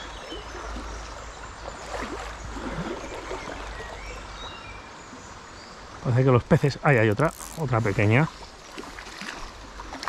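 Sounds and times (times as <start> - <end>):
river water flowing: 0.0 - 10.0.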